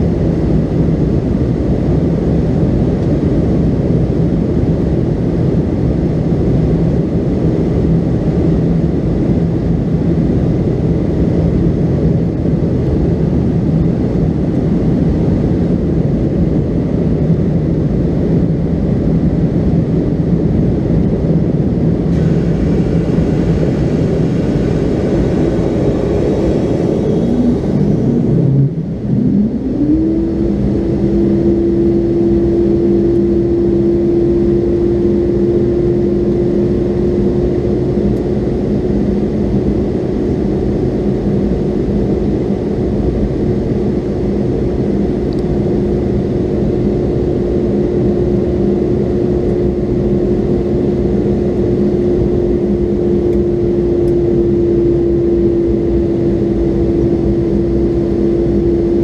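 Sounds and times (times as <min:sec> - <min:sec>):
jet engine and airflow roar: 0:00.0 - 0:59.0
low hum: 0:00.0 - 0:59.0.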